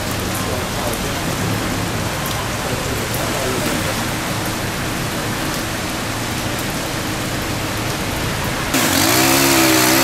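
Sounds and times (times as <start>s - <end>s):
heavy rain on a street: 0.0s - 10.0s.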